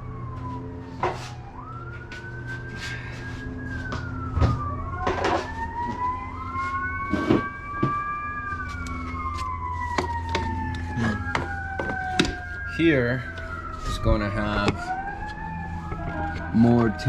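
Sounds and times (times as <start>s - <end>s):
sirens wailing: 0.0s - 17.0s
steady low hum: 0.0s - 17.0s.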